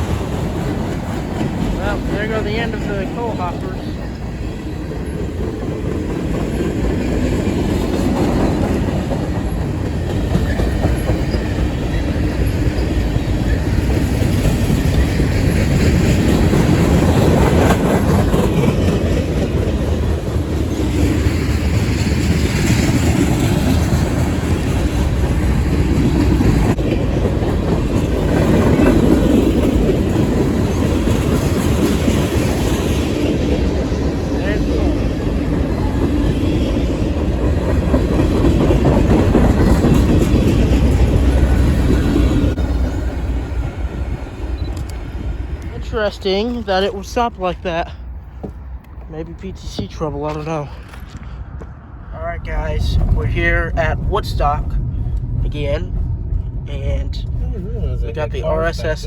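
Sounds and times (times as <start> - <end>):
wheels clicking over rail joints: 0.0 - 51.8
freight train rolling past: 0.0 - 59.0.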